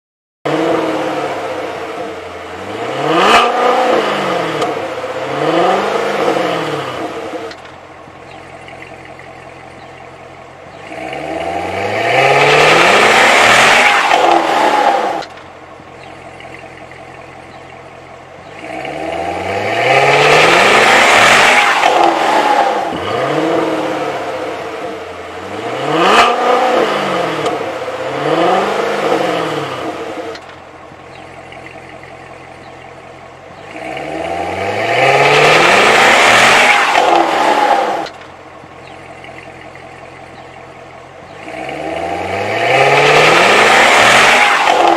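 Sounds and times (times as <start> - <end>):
car engine revving: 0.5 - 44.9.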